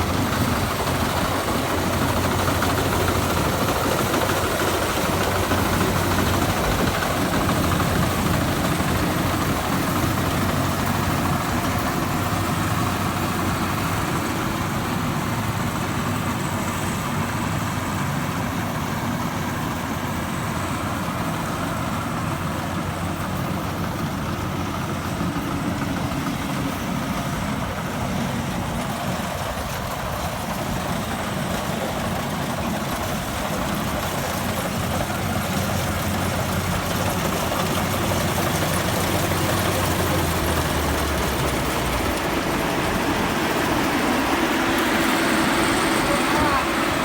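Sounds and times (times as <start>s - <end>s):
combine harvester engine running: 0.0s - 47.0s.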